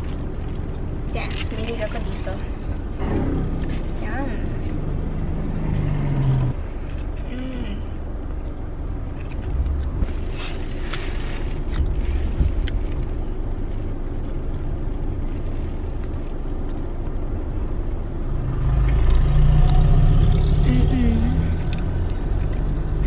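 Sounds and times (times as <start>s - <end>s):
car in motion rumble: 0.0s - 23.0s.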